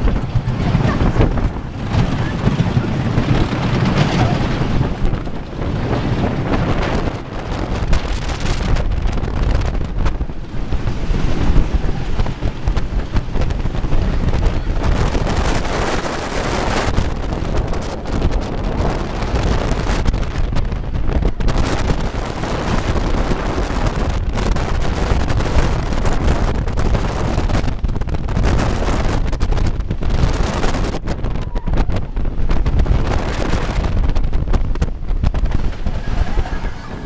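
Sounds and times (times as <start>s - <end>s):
roller coaster on wooden track: 0.0s - 37.0s
wind buffeting microphone: 0.0s - 37.0s.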